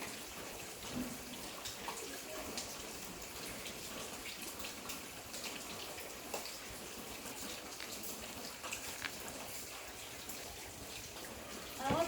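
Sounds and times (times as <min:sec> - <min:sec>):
drip-like ticks: 0:00.0 - 0:11.3
water pattering: 0:00.0 - 0:12.0.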